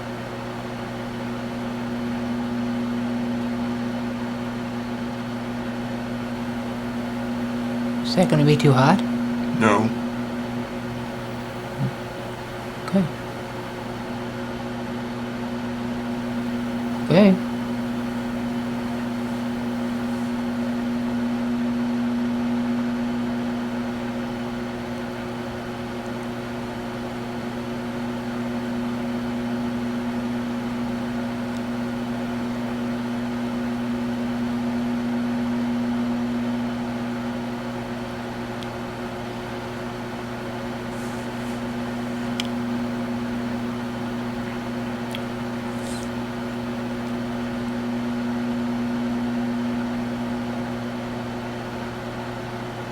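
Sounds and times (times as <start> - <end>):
microwave oven humming: 0.0 - 52.9.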